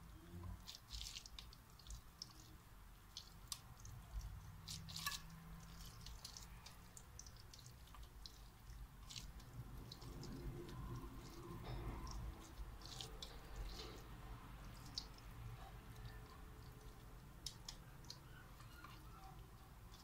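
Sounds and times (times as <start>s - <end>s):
wet squishing of filling: 0.0s - 20.0s.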